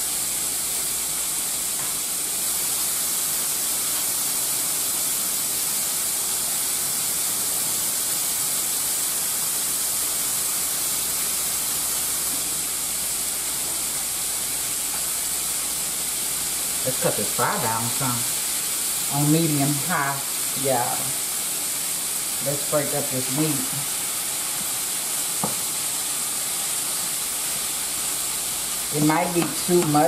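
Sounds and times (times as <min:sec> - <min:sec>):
meat sizzling in a skillet: 0:00.0 - 0:30.0.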